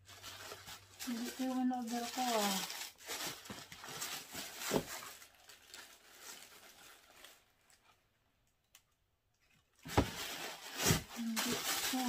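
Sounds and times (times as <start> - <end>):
tissue paper rustling: 0.0 - 7.9, 9.8 - 12.0.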